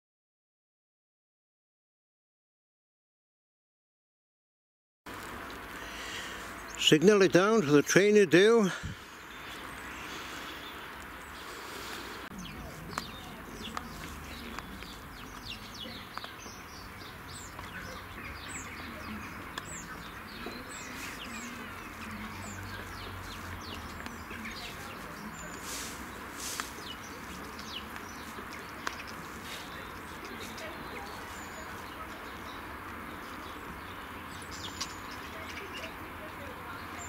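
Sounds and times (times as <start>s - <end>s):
small birds chirping: 5.1s - 37.0s
steady outdoor hiss: 5.1s - 37.0s.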